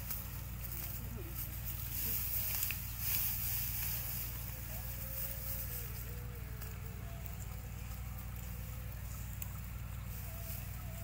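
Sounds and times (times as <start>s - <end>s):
faint wavering sounds: 0.0s - 11.0s
steady low hum: 0.0s - 11.0s.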